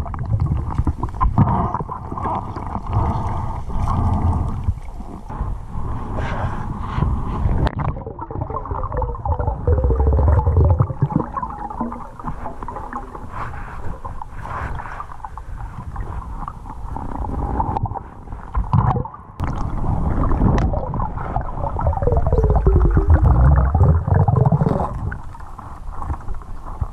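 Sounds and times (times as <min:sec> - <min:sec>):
underwater rumble of moving water: 0:00.0 - 0:26.9.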